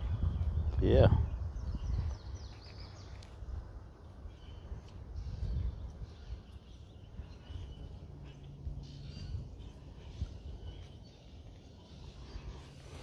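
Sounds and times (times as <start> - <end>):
steady low rumble: 0.0 - 13.0
bird chirps: 0.3 - 3.4, 4.0 - 13.0.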